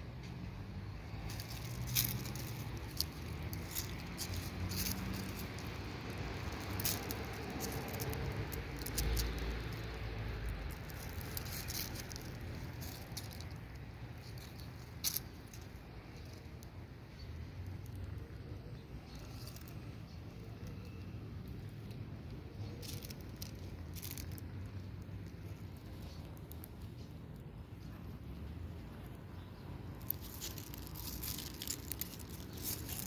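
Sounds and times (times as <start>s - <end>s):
dry leaves and gravel crackling: 0.1s - 33.0s.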